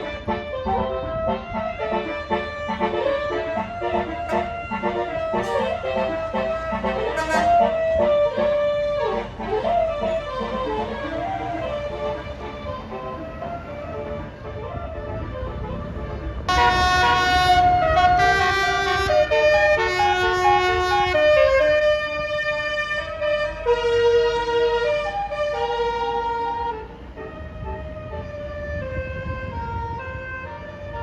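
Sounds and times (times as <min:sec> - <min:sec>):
bus engine rumble: 0:00.0 - 0:31.0
multi-tone bus air horn tune: 0:00.0 - 0:31.0.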